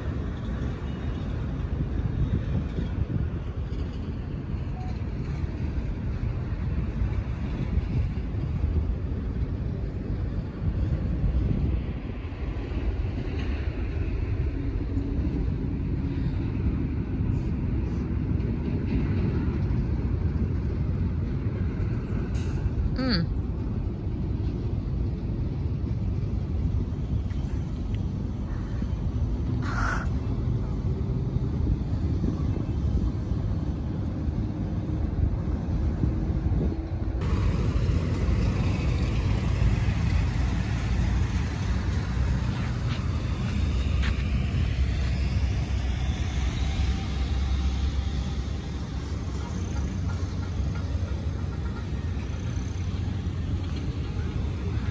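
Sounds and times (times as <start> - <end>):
highway traffic: 0.0 - 54.9
low rumbling noise: 0.0 - 54.9
wind buffeting microphone: 0.0 - 54.9.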